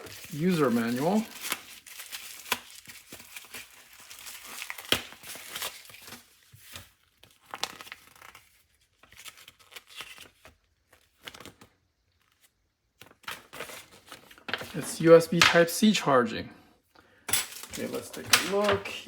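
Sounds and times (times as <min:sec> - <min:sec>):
packaging crinkling and rustling: 0:00.0 - 0:15.4, 0:17.3 - 0:19.0.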